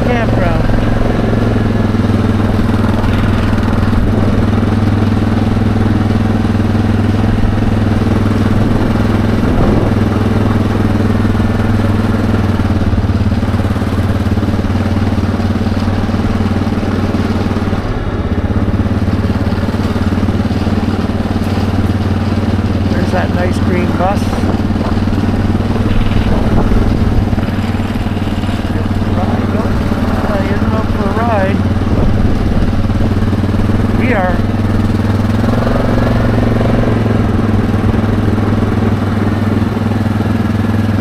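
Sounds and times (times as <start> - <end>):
quad bike engine running: 0.0 - 41.0.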